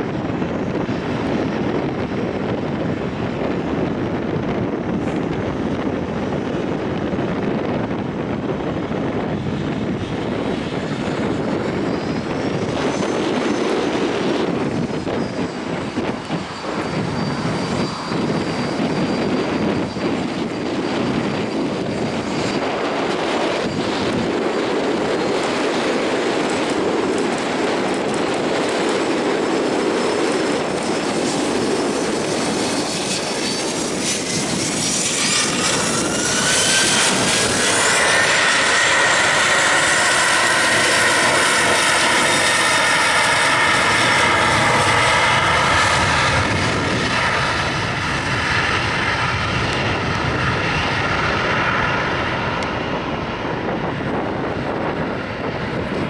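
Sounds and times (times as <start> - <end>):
jet engines whining: 0.0 - 56.0
wind noise on microphone: 0.0 - 56.0.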